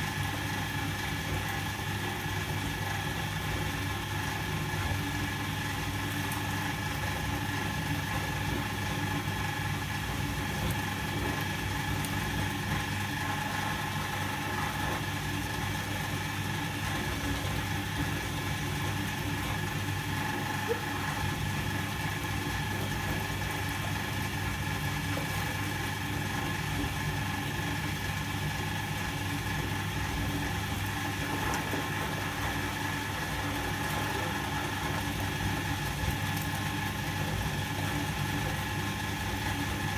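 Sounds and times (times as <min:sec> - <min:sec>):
washing machine motor hum and whine: 0:00.0 - 0:39.9.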